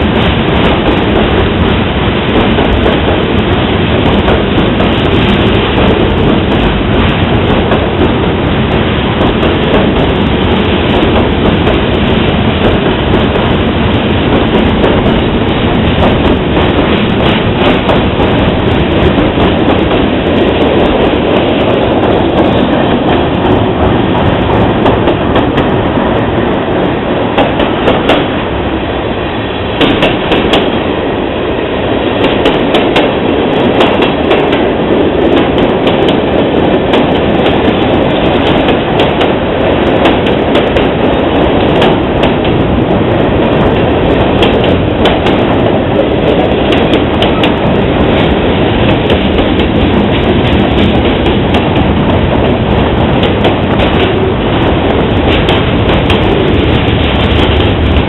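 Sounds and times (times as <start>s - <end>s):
steel wheels on rail: 0.0s - 58.0s.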